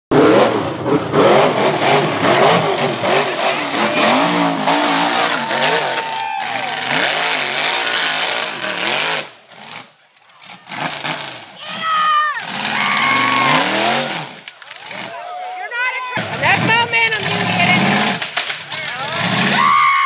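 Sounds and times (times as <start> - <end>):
buggy engine revving hard: 0.1 - 15.2, 16.2 - 19.9
tyres spinning in dirt: 2.0 - 15.4, 16.2 - 20.0.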